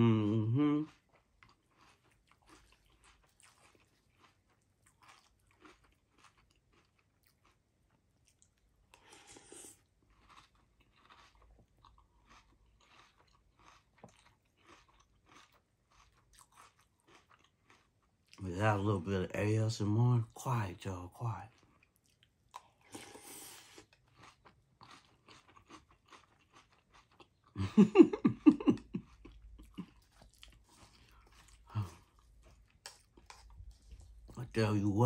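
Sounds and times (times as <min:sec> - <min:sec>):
person chewing crunchy cereal: 0:00.0 - 0:18.8, 0:20.3 - 0:35.0.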